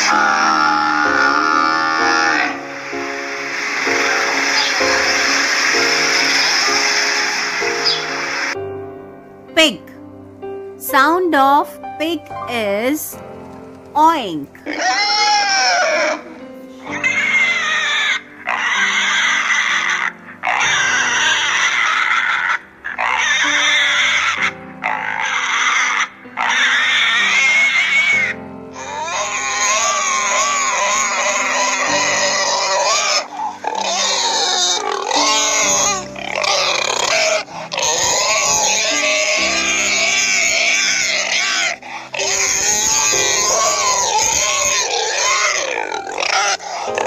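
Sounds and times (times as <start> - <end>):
pigs oinking: 0.0 - 8.6, 14.6 - 16.2, 16.8 - 47.0
steady music: 0.0 - 47.0.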